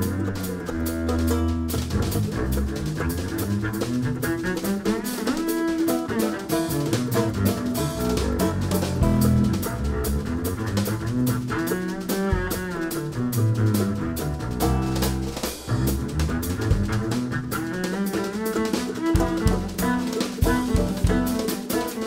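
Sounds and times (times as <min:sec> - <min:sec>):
bluegrass string band: 0:00.0 - 0:22.0
drum kit snare and cymbals: 0:00.0 - 0:22.0.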